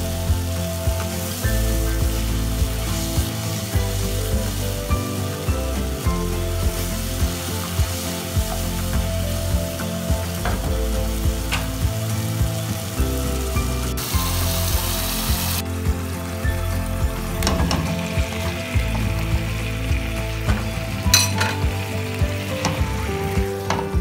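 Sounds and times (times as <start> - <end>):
background music with beat: 0.0 - 24.0
gravy sizzling and bubbling: 0.0 - 24.0.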